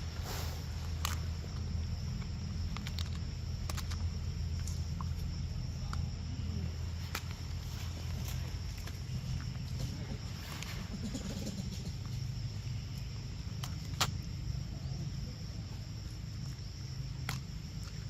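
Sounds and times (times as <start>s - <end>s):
insects droning: 0.0s - 18.0s
low background rumble: 0.0s - 18.0s.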